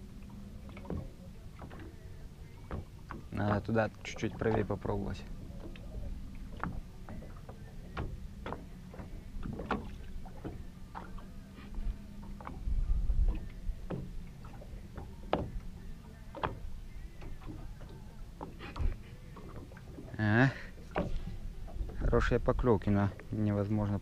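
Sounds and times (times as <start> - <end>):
small waves slapping boat hull: 0.0 - 24.0.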